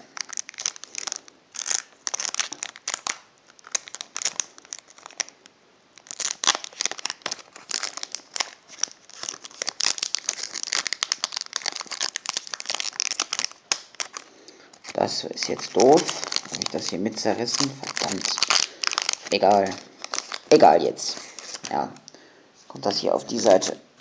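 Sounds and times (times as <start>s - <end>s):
foil wrapper crinkling and tearing: 0.0s - 21.8s.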